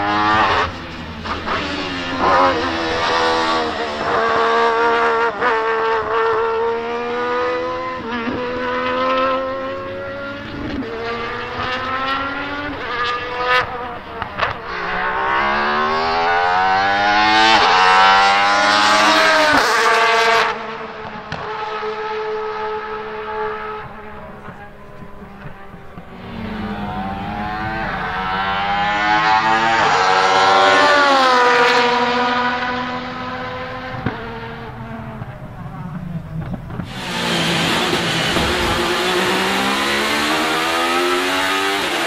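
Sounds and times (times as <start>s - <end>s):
racing engine revving: 0.0s - 35.4s, 36.0s - 42.0s.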